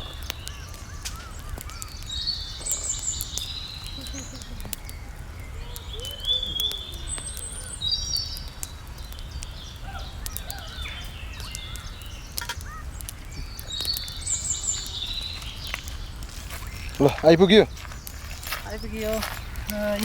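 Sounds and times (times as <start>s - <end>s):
birds chirping and trilling: 0.0s - 20.0s
small clicks and ticks: 0.0s - 20.0s.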